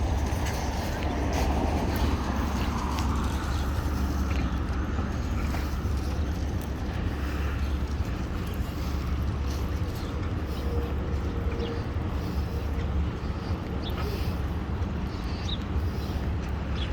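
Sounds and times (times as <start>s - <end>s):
faint street noise: 0.0s - 16.9s.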